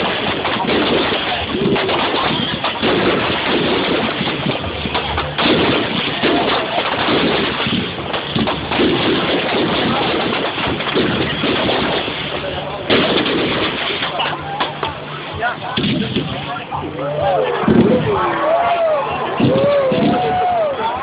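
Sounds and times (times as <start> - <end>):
fireworks bangs and crackles: 0.0 - 16.7, 19.3 - 21.0.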